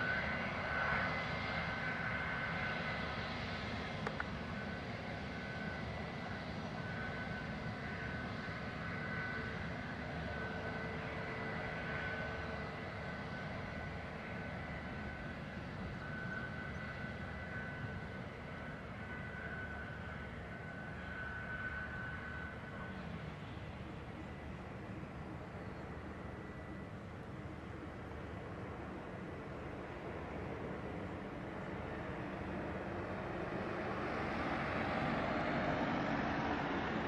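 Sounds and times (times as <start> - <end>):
jet engines at taxi power: 0.0 - 37.0
thin high engine whine: 0.0 - 37.0.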